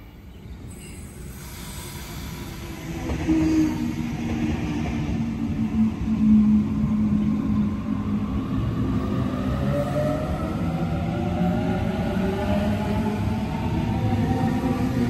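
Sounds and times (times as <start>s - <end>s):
electric train moving: 0.5s - 15.0s.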